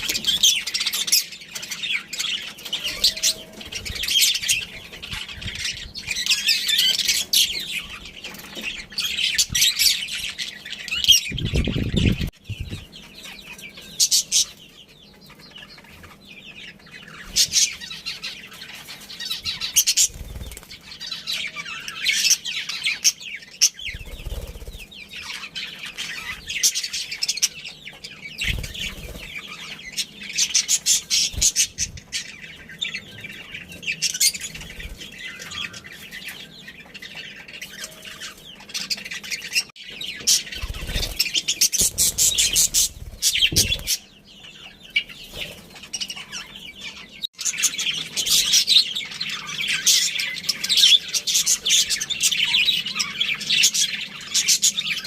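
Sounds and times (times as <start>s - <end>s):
budgies chattering and chirping: 0.0s - 55.0s.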